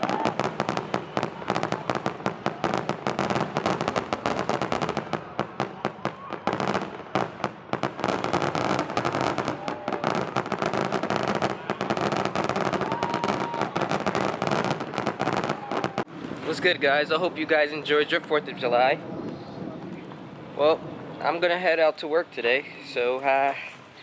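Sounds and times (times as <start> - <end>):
fireworks crackling: 0.0 - 24.0.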